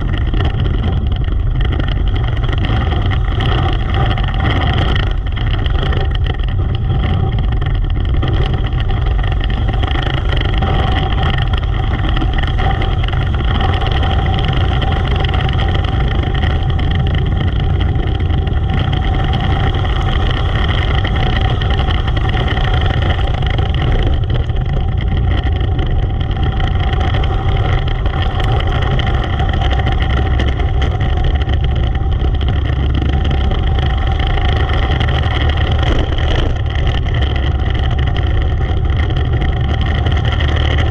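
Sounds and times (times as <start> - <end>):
racing engine droning: 0.0 - 40.9.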